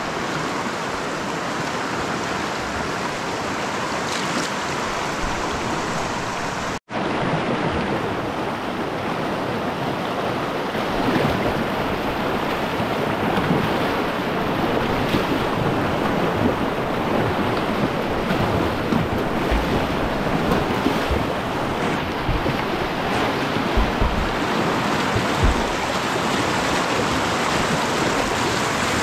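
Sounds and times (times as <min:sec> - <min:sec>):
whitewater rapids rushing: 0:00.0 - 0:29.0.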